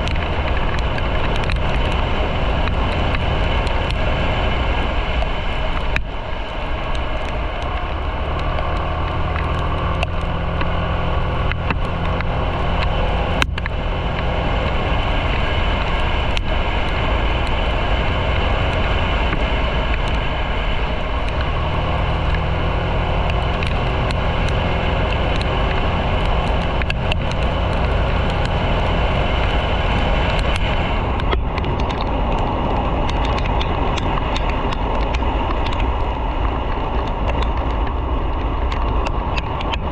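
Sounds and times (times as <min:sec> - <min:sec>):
constant noise haze: 0:00.0 - 0:39.9
motorcycle engine running: 0:00.0 - 0:39.9.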